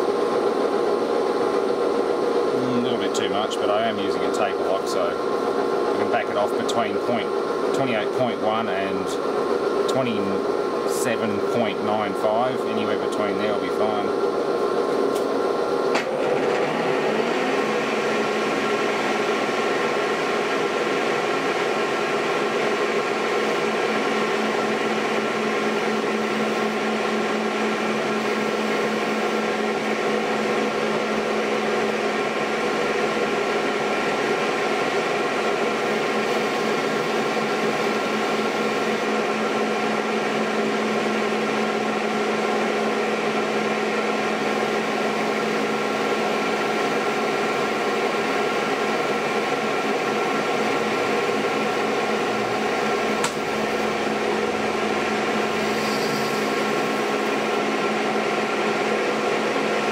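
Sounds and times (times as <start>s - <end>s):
metal lathe humming: 0.0s - 59.9s.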